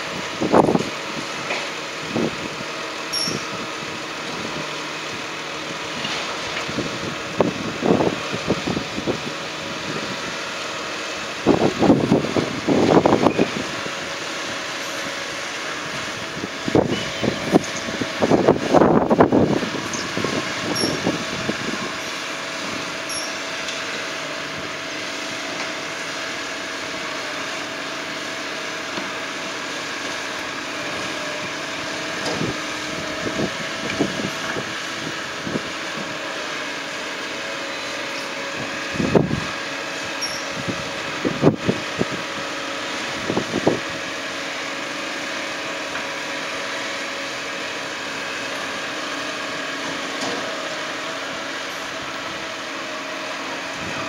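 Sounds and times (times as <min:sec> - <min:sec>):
garbage truck engine hum: 0:00.0 - 0:54.0.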